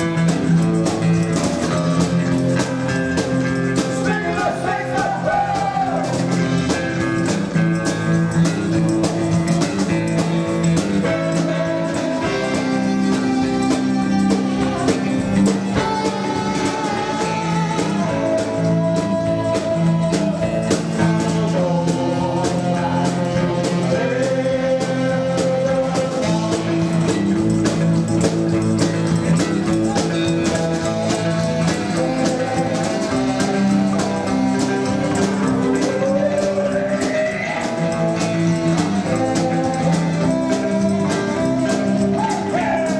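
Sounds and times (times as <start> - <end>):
drums: 0.0 - 42.9
electric guitar: 0.0 - 42.9
slap double bass: 0.0 - 42.9.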